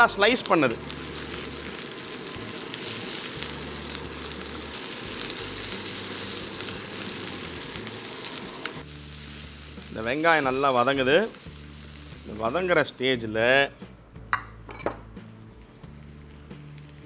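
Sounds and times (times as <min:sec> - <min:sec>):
onions sizzling in oil: 0:00.0 - 0:13.2, 0:15.5 - 0:17.0.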